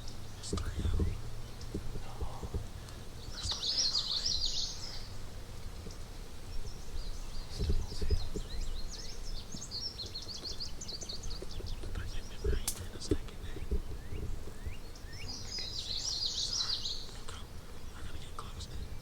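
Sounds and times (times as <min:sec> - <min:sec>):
low wind rumble on microphone: 0:00.0 - 0:19.0
songbirds chirping: 0:00.0 - 0:19.0.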